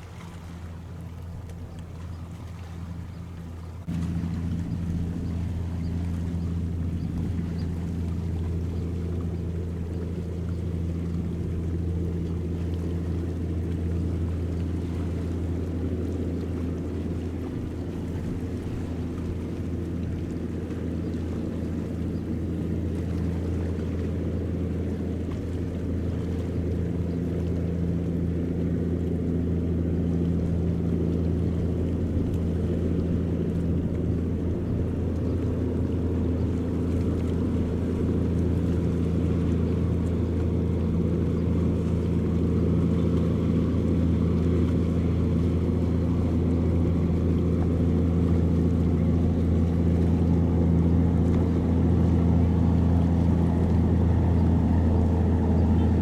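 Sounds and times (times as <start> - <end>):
ferry engine humming: 0.0 - 56.0.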